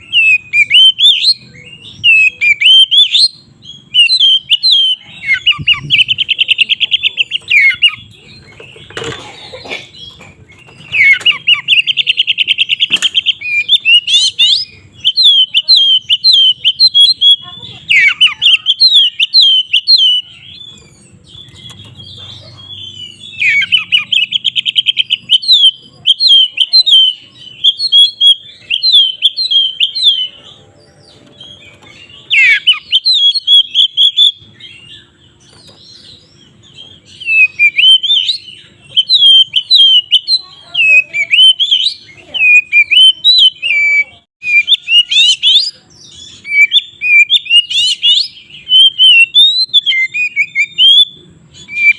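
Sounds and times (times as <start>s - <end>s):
bird singing whistled phrases: 0.0s - 8.0s, 10.7s - 20.8s, 22.7s - 30.4s, 31.5s - 35.2s, 37.0s - 51.9s.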